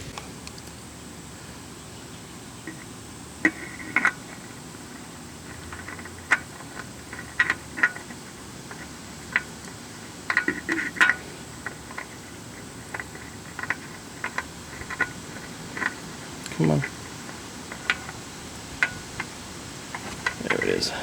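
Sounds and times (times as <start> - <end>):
oil filter clicks and rattles: 2.6 - 20.8.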